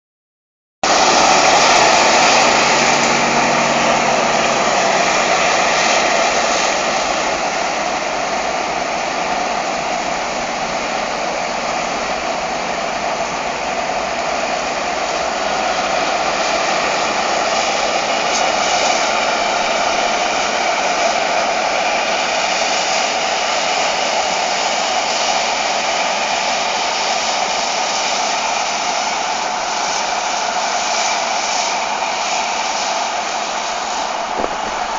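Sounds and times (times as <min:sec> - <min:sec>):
harvest machinery whirring drone: 0:00.8 - 0:34.9.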